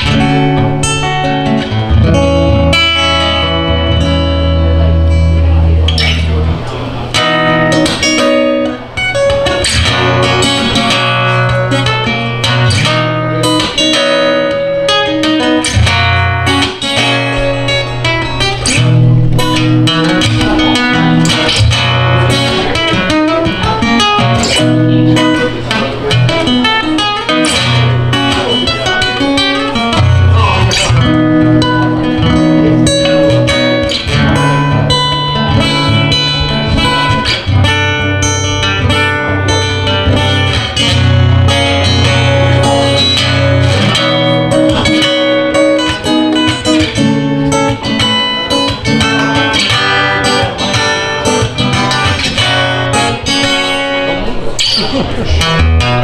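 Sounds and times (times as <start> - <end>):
acoustic guitar: 0.0 - 56.0.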